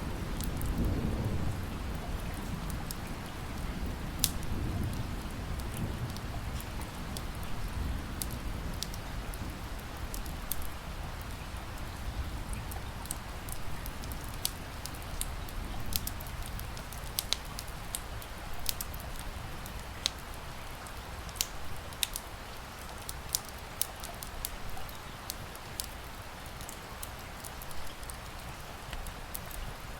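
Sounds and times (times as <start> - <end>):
rain hissing: 0.0 - 29.9
wood fire crackling: 0.0 - 29.9.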